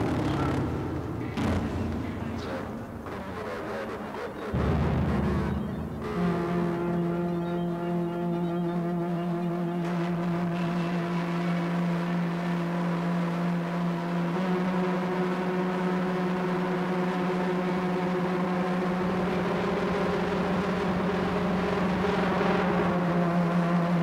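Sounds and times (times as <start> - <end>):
electronic drone: 0.0 - 24.0.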